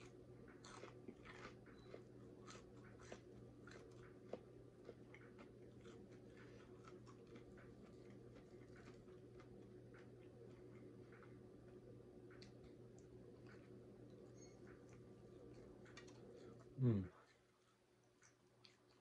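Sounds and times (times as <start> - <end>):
crunchy chewing: 0.0 - 19.0
faint steady hum: 0.0 - 19.0.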